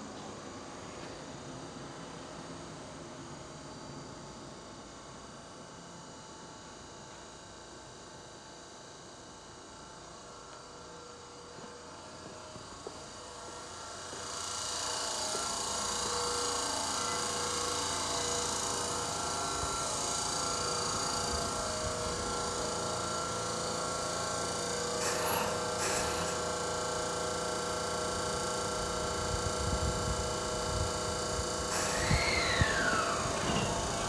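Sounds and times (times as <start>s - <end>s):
train mechanical hum with whine: 0.0s - 34.0s.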